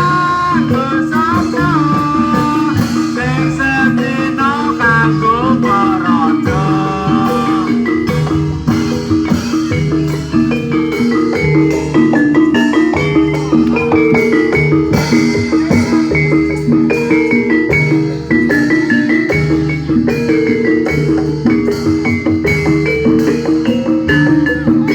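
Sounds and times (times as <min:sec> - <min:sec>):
metallophones playing melody: 0:00.0 - 0:24.9.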